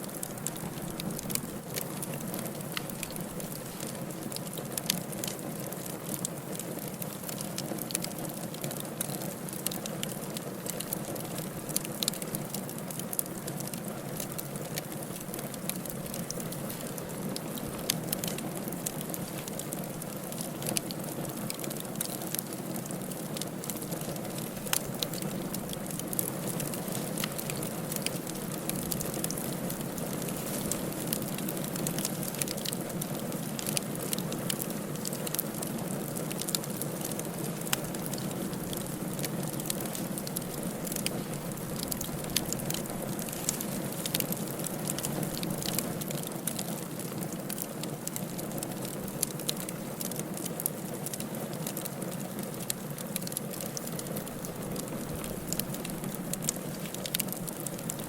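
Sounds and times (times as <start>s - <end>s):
fire burning: 0.0s - 58.0s
wood crackling and popping: 0.0s - 58.0s.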